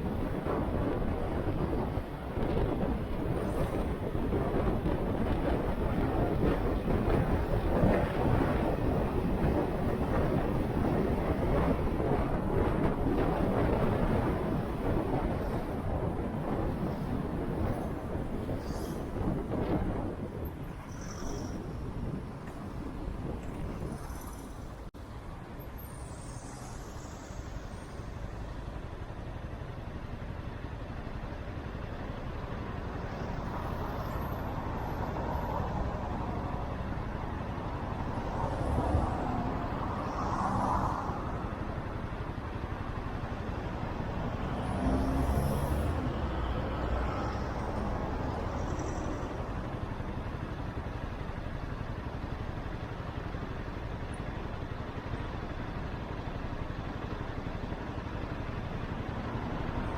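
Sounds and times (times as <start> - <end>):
passing traffic: 0.0 - 59.9
road noise: 0.0 - 59.9.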